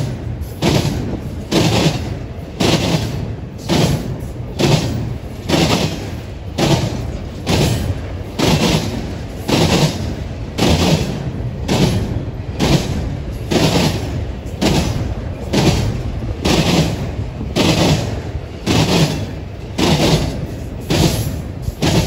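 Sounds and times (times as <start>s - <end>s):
train wheels clattering over rail joints: 0.0s - 22.0s.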